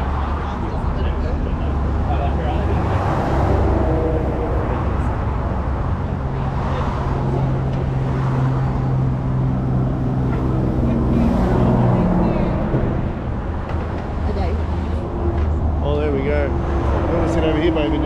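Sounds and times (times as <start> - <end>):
road traffic rumble: 0.0 - 18.0
vehicle engine humming: 0.0 - 18.0.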